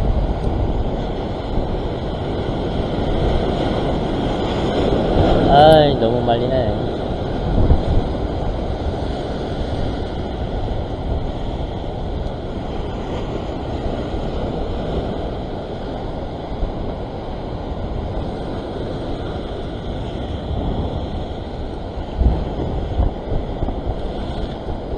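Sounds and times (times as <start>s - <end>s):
rough sea surf foaming: 0.0s - 24.9s
wind rumbling on microphone: 0.0s - 24.9s.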